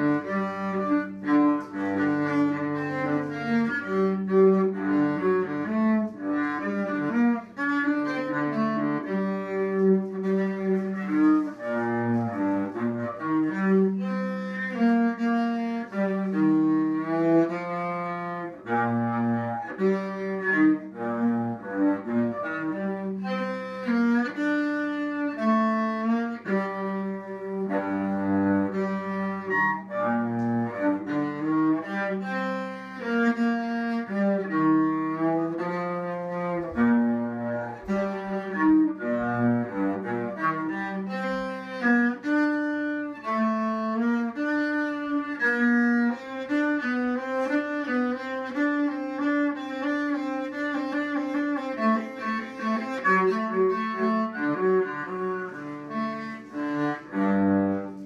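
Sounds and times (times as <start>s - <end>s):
bowed cello: 0.0s - 58.0s.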